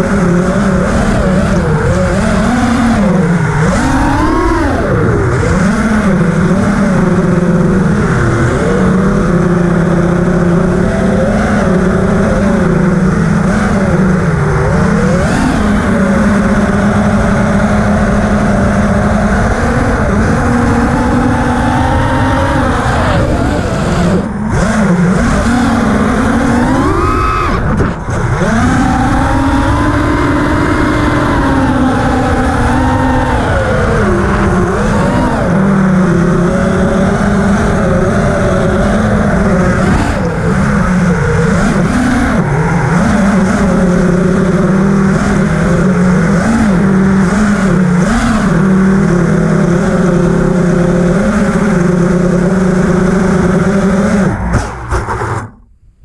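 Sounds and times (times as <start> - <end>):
quadcopter motors whining: 0.0 - 55.6.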